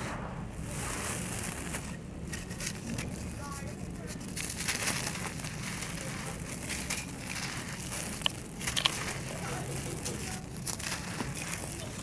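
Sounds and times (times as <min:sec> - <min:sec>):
dry clay crumbling by hand: 0:00.7 - 0:12.0.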